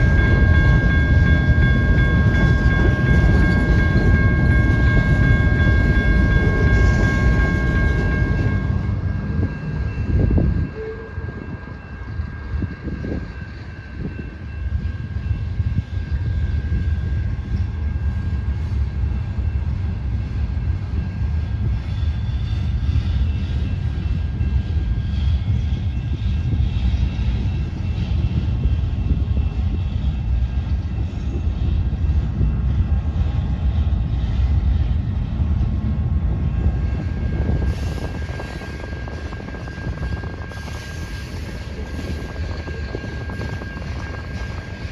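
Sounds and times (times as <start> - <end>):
train rumbling past: 0.0 - 44.9.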